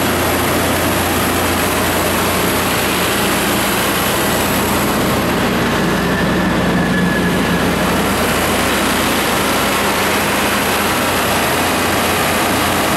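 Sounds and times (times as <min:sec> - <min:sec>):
diesel generator engine running: 0:00.0 - 0:12.9.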